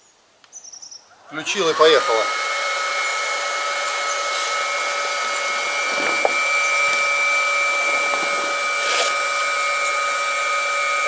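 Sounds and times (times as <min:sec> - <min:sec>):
electric air pump whining: 0:01.2 - 0:11.0.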